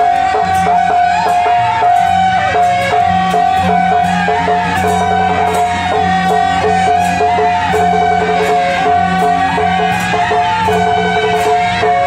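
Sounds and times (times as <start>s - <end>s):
drum and cymbal strokes: 0.0s - 12.0s
shawm melody: 0.0s - 12.0s.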